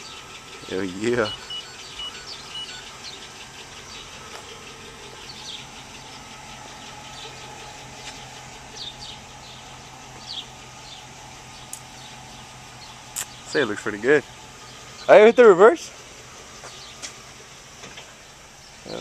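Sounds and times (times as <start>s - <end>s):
bird chirps: 0.0s - 15.5s, 16.2s - 17.3s
car engine idling: 0.0s - 19.0s.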